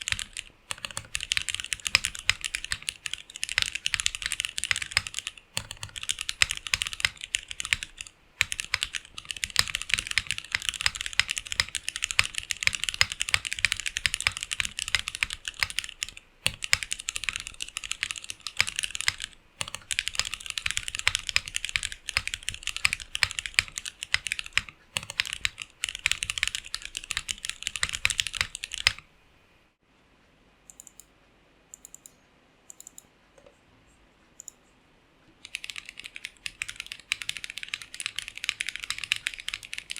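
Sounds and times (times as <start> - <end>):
typing on mechanical keyboard: 0.0 - 29.0, 35.4 - 39.9.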